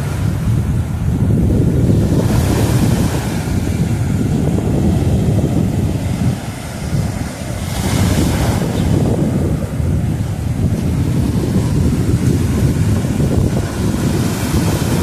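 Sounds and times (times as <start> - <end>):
sea surf breaking on shore: 0.0 - 15.0
wind buffeting microphone: 0.0 - 15.0.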